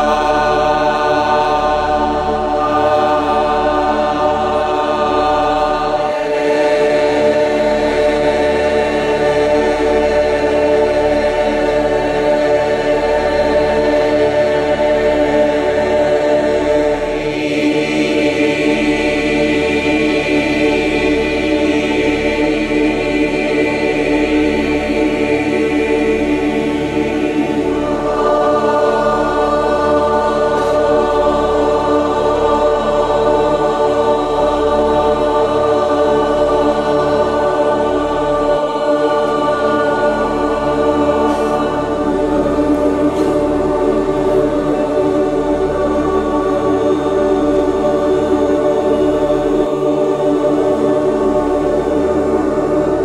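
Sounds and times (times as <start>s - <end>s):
group chanting held vowel tones: 0.0s - 53.0s.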